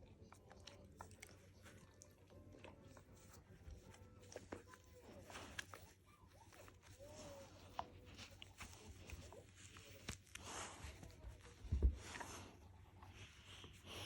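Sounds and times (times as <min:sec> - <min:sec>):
dog chewing toy: 0:00.0 - 0:14.0.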